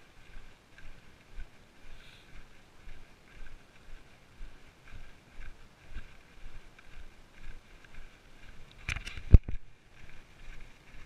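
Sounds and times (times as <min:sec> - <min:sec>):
footsteps on dirt track: 0:00.0 - 0:11.0.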